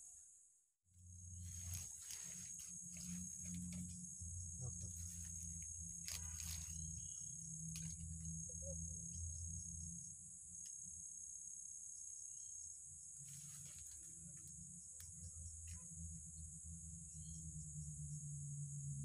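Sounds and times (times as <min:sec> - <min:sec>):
high-pitched insect drone: 0:01.0 - 0:19.0.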